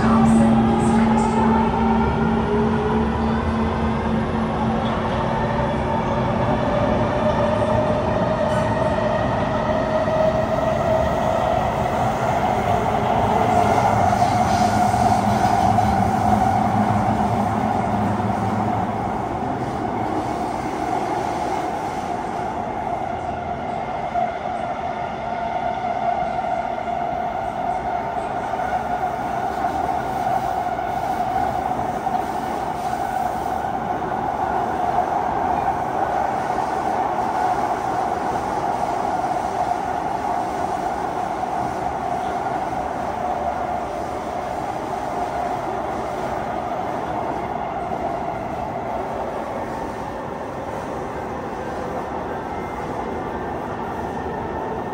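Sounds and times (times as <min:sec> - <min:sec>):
train rumbling in tunnel: 0:00.0 - 0:54.9.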